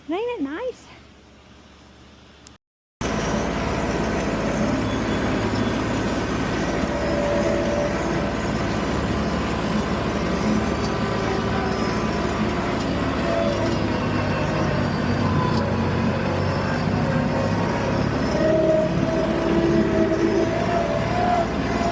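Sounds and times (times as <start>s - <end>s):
tractor engine running: 3.0s - 21.9s.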